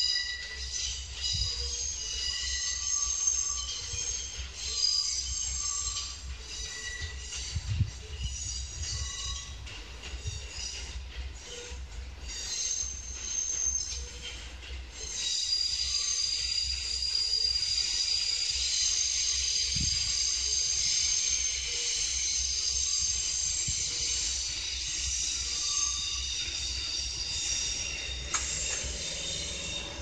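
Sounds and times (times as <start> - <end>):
low rumble of slow train: 0.0 - 30.0
train wheels squealing: 0.0 - 30.0.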